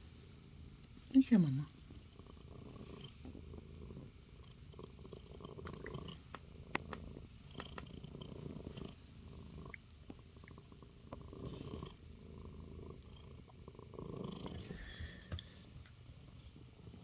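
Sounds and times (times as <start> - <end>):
cat purring: 0.5 - 17.0.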